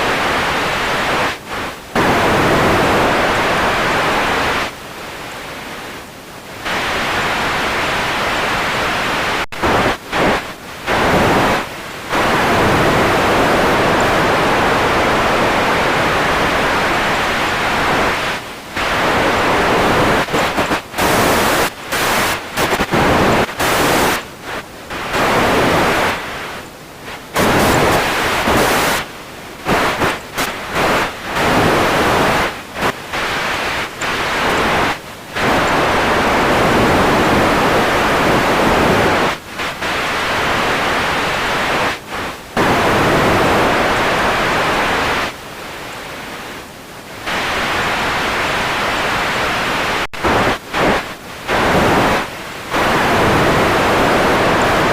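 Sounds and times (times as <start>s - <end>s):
radio static hiss: 0.0s - 54.9s.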